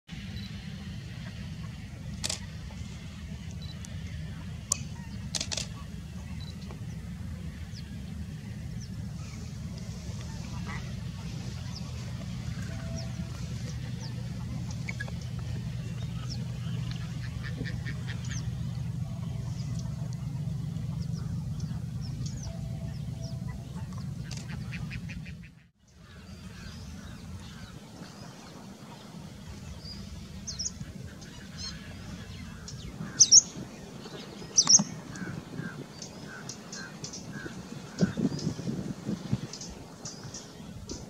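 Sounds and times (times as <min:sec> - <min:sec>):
low rumble: 0:00.1 - 0:41.0
wild birds chirping: 0:00.2 - 0:41.0.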